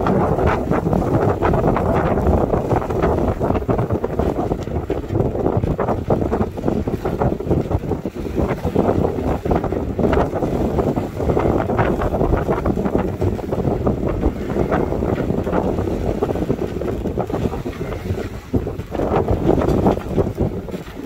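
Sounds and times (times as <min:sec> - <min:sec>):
choppy water rushing along hull: 0:00.0 - 0:21.0
gusting wind buffeting microphone: 0:00.0 - 0:21.0.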